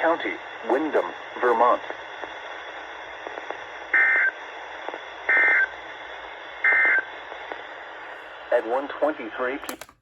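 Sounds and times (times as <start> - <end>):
steady radio hiss: 0.0 - 10.0.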